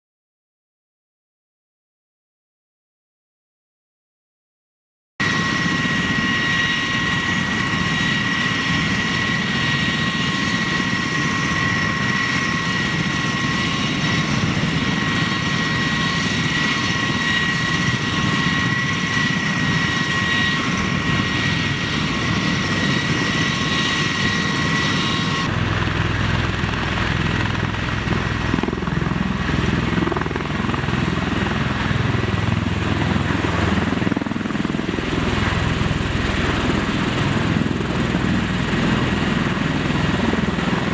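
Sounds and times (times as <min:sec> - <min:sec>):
high-pitched turbine whine: 0:05.2 - 0:40.9.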